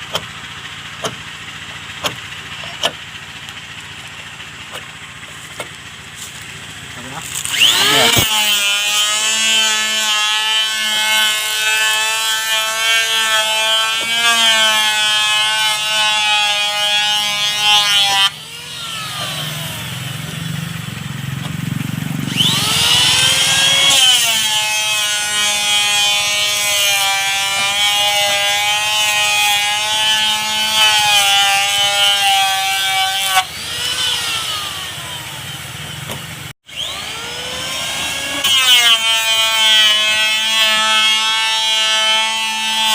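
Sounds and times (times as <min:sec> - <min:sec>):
power tool motor whining on wood: 0:04.7 - 0:42.9.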